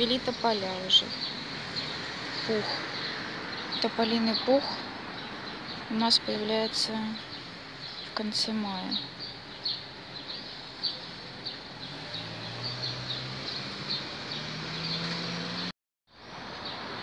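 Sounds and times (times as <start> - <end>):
small bird chirping: 0.0 - 15.7
outdoor street noise: 0.0 - 17.0.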